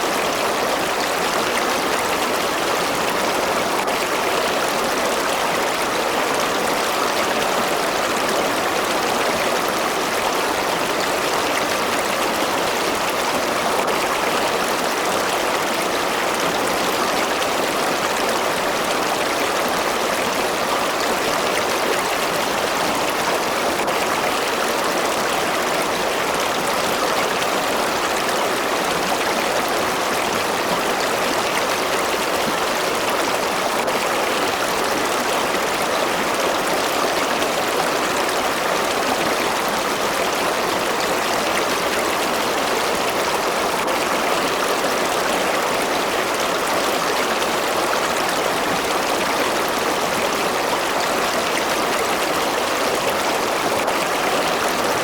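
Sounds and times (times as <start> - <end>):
river water babbling over rocks: 0.0 - 55.0.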